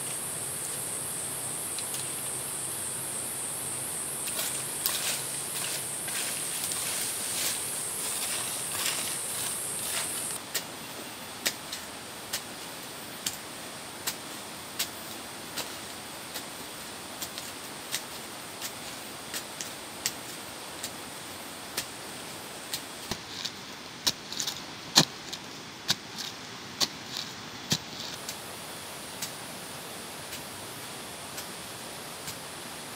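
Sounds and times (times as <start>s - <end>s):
steady background hiss: 0.0s - 32.9s.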